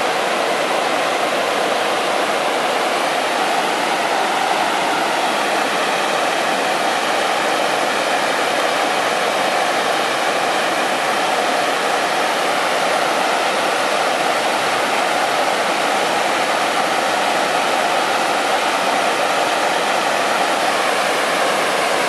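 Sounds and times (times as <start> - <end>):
water cascading over rock: 0.0 - 22.0.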